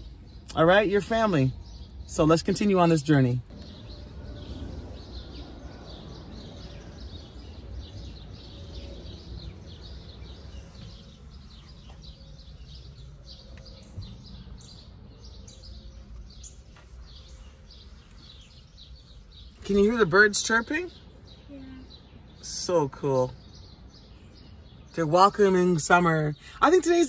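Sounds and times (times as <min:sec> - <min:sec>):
low steady rumble: 0:00.0 - 0:26.0
small birds chirping: 0:00.0 - 0:27.0.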